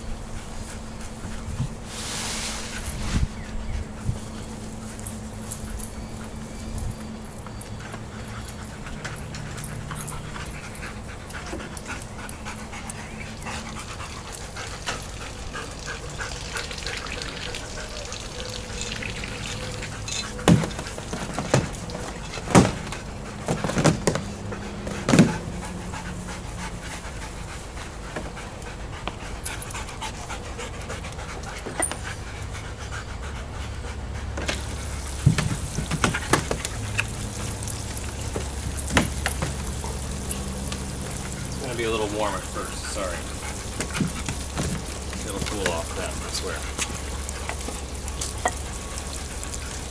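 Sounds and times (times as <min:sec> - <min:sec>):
dog panting: 0:03.4 - 0:49.9.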